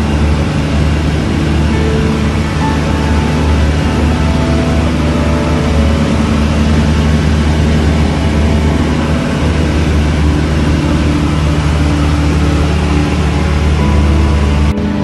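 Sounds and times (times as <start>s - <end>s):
airplane engine droning in cabin: 0.0s - 15.0s.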